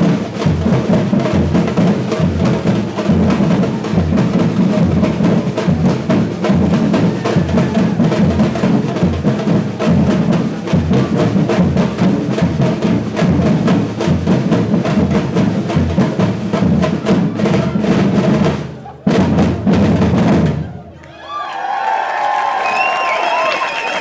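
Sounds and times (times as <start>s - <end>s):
fast drum and wood strikes: 0.0s - 20.7s.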